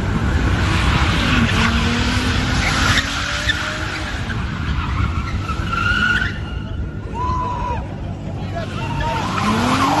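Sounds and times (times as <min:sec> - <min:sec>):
car engine running hard: 0:00.0 - 0:07.2, 0:07.8 - 0:10.0
tyres skidding and squealing: 0:00.0 - 0:10.0.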